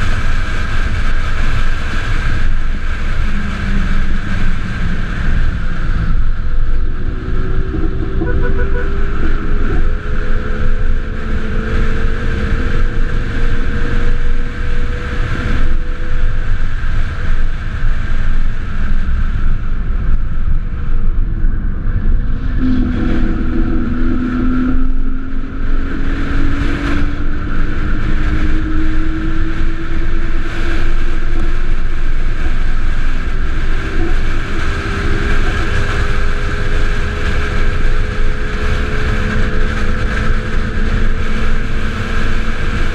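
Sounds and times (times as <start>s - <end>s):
lower whine climbing in pitch: 0.0s - 42.9s
road and wind rumble: 0.0s - 42.9s.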